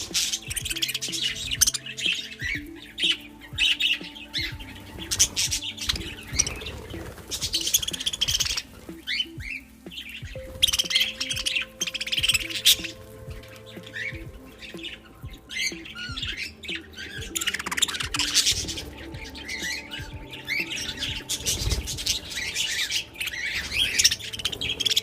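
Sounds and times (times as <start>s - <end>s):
background music: 0.0s - 25.0s
budgerigars chattering and squawking: 0.0s - 25.0s.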